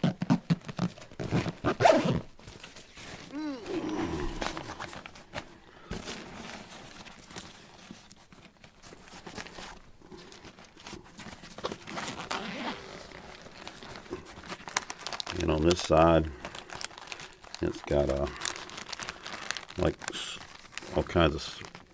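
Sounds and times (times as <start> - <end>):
pack rustling and scraping: 0.0 - 21.9.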